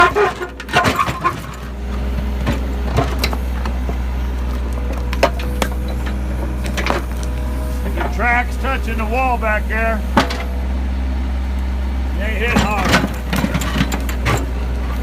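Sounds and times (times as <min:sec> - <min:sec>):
machinery droning: 0:00.0 - 0:15.0.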